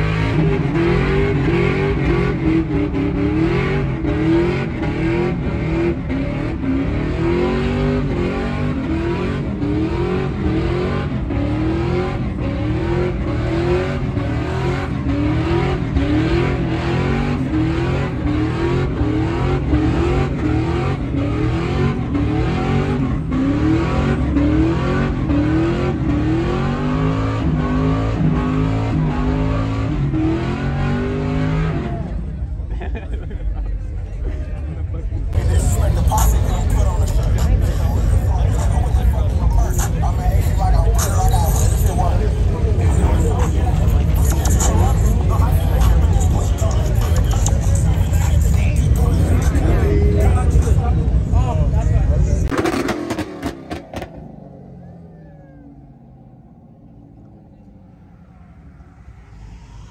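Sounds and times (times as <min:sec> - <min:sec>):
truck engine revving hard: 0:00.0 - 0:32.9, 0:35.3 - 0:55.1.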